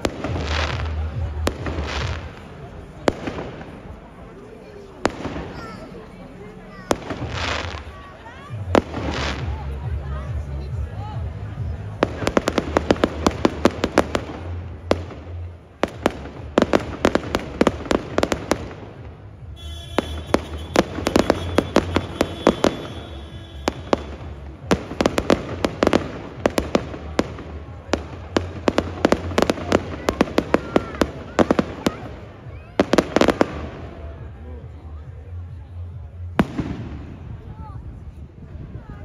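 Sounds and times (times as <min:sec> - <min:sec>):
fireworks bursting and crackling: 0:00.0 - 0:10.4, 0:11.6 - 0:34.3, 0:36.4 - 0:37.4.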